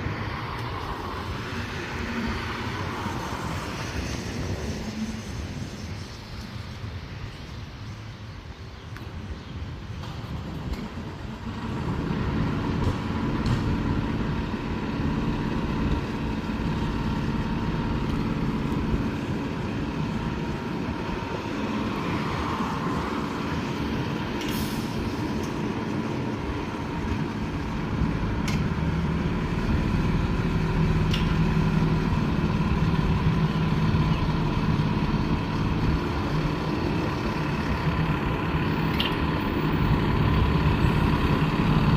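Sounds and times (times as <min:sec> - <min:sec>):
fire truck engine rumble: 0:00.0 - 0:41.9.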